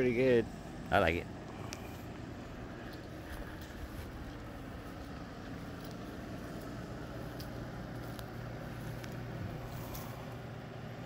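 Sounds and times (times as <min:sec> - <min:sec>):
machinery humming: 0:00.0 - 0:11.0
outdoor background noise: 0:00.0 - 0:11.0.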